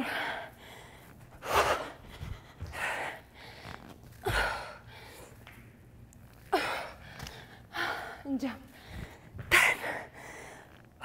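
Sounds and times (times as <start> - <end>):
woman panting hard: 0.0 - 5.4, 6.5 - 10.8.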